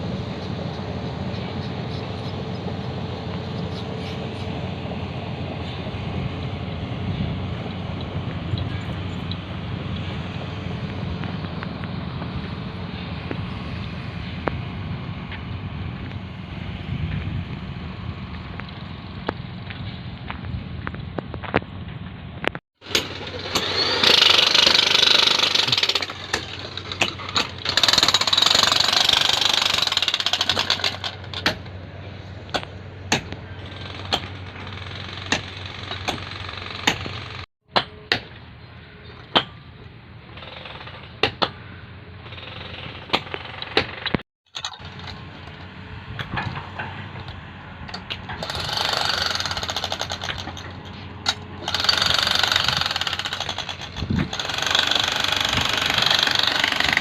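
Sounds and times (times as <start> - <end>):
diesel engine humming: 0.0 - 40.2, 41.1 - 57.0.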